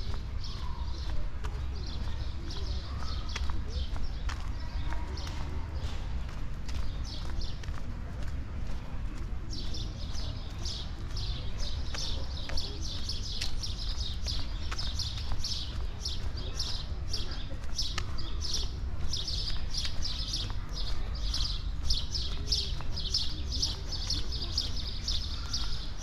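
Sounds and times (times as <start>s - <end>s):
walking footsteps: 0.0s - 26.0s.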